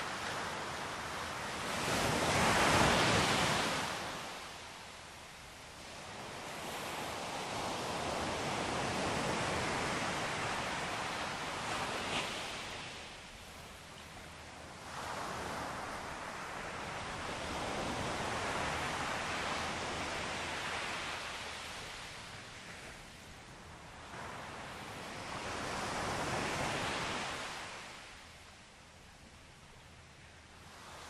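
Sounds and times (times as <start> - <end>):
ocean surf breaking on beach: 0.0 - 4.7, 5.8 - 13.3, 14.5 - 28.2.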